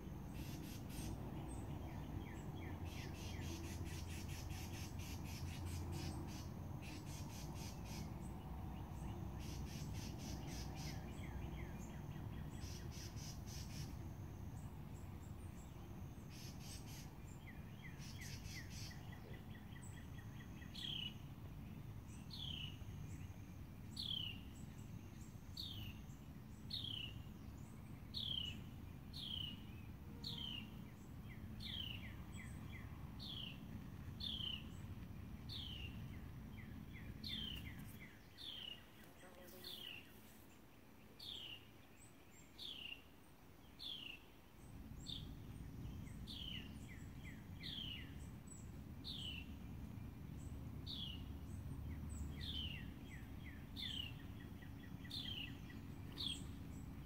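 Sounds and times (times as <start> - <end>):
low background rumble: 0.0 - 57.0
songbird chirping: 0.0 - 57.0.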